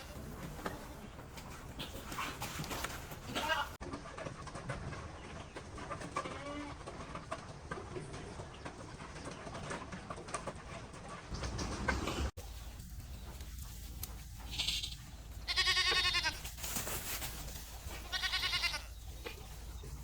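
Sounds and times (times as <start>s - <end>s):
farmyard background noise: 0.0s - 20.0s.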